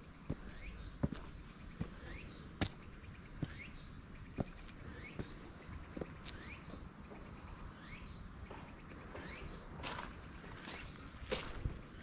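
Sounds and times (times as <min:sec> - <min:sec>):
high-pitched insect drone: 0:00.0 - 0:12.0
footsteps walking: 0:00.3 - 0:03.6, 0:04.2 - 0:07.4, 0:08.4 - 0:11.9.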